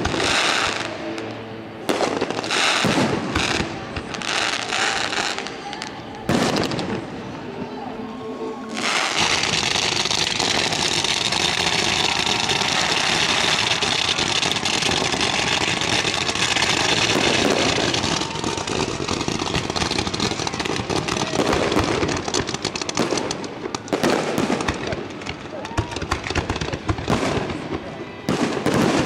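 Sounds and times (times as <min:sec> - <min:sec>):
fireworks crackles and pops: 0:00.0 - 0:07.8, 0:08.7 - 0:29.0
fireworks fountain hissing: 0:00.0 - 0:07.9, 0:08.6 - 0:29.0.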